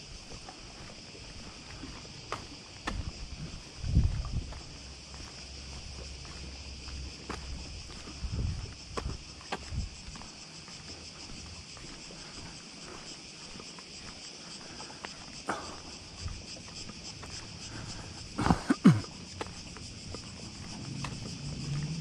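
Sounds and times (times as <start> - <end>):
cicadas droning: 0.0 - 22.0.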